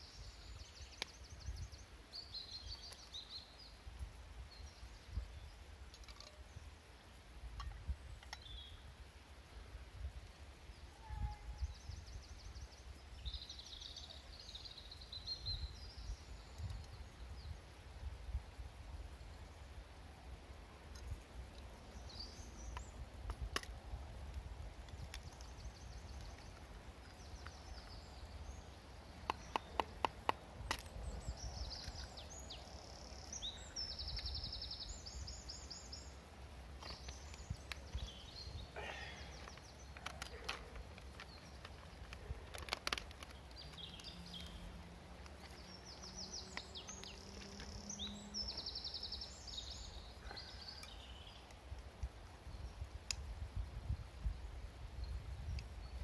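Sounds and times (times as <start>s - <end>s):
woodland birds singing: 0.0s - 56.0s.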